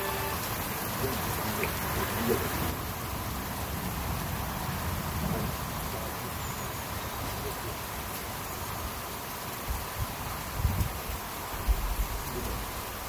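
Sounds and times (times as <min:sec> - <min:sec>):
heavy rain on pond: 0:00.0 - 0:13.0.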